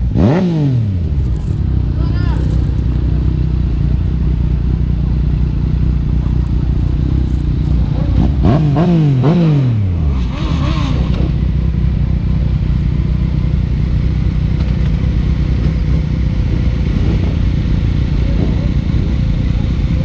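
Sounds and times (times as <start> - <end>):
motorcycle engine revving: 0.0 - 20.0
motorcycle engines idling: 0.0 - 20.0.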